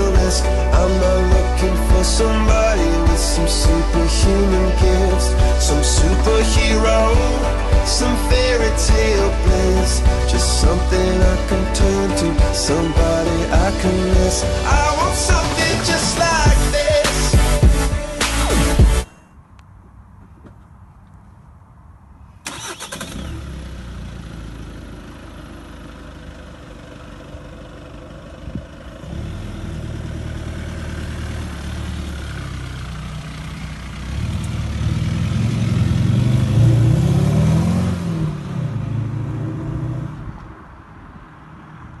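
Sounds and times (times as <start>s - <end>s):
diesel car engine starting and revving: 0.0s - 19.0s, 22.4s - 42.0s.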